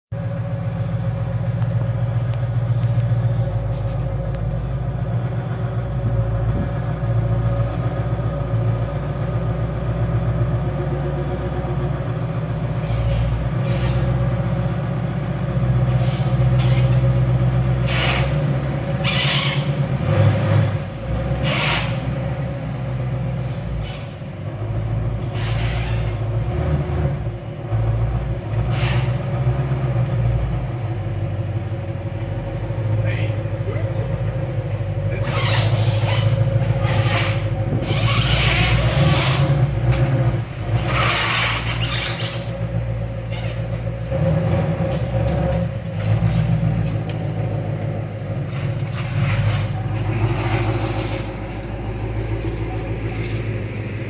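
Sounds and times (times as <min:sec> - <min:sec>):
car engine low rumble: 0:00.1 - 0:54.0.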